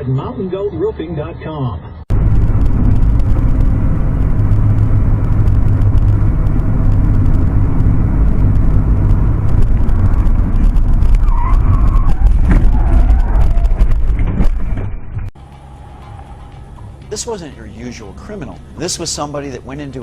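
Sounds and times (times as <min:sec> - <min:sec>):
motor vehicle engine rumbling: 0:00.4 - 0:20.0.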